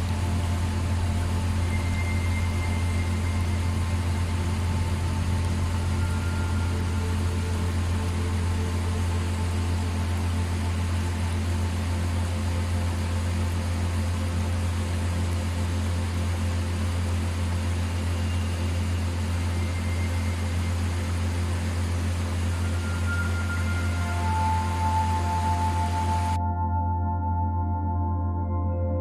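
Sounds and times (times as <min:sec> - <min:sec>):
even hiss: 0:00.0 - 0:26.4
steady low hum: 0:00.0 - 0:29.0.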